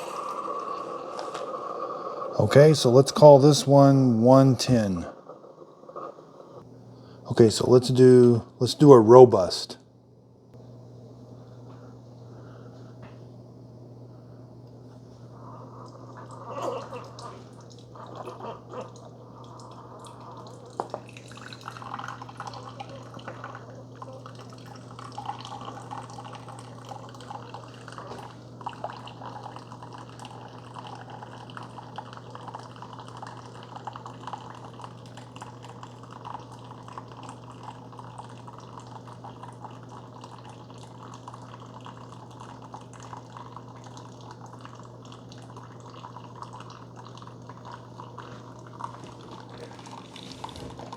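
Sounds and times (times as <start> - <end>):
coffee streaming into mug: 0.0 - 6.6, 15.4 - 50.9
pump humming: 0.0 - 9.5, 13.8 - 50.9.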